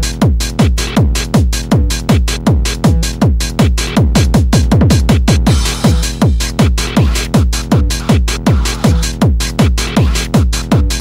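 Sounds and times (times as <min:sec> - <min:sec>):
hardcore techno track: 0:00.0 - 0:11.0
heavy kick drum: 0:00.0 - 0:11.0.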